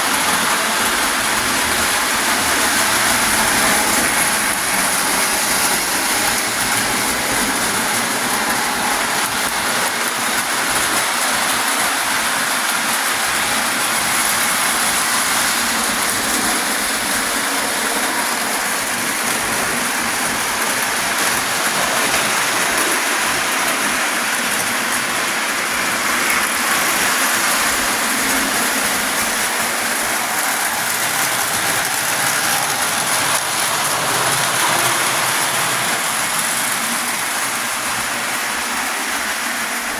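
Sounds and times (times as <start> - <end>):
toy train running on track: 0.0 - 39.9.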